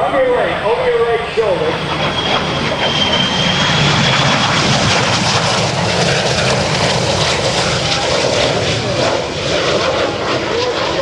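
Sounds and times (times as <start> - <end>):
jet flying by: 0.0 - 11.0.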